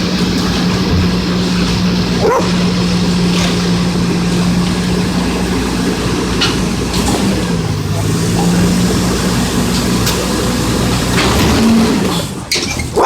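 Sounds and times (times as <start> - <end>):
garbage truck engine humming: 0.0 - 13.0.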